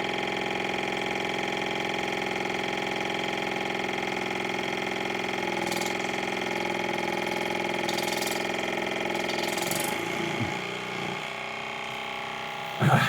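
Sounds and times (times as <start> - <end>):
pump motor buzzing: 0.3 - 12.8.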